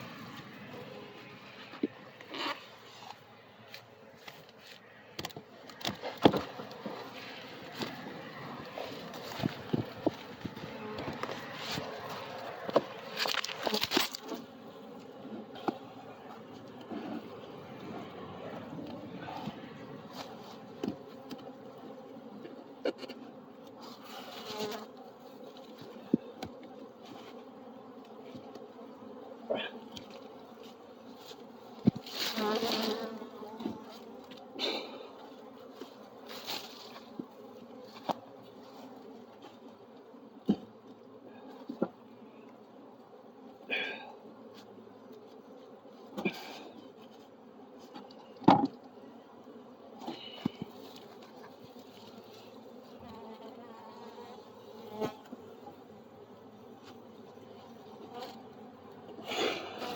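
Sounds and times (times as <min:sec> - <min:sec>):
wooden hive boxes scraping and knocking: 0:00.0 - 0:28.8, 0:29.8 - 0:42.1, 0:44.4 - 0:48.9, 0:49.8 - 0:55.9
honey bees humming: 0:00.0 - 0:59.9.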